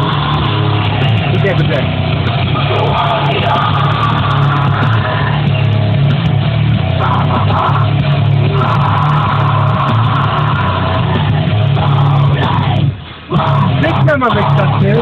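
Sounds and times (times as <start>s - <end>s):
heavy metal music on car stereo: 0.0s - 15.0s.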